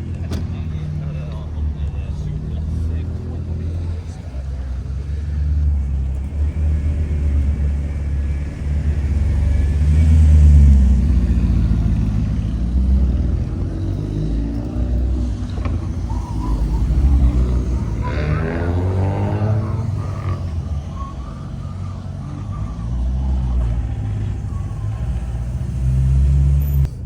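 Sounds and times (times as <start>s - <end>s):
car engine exhaust rumble: 0.0s - 27.0s.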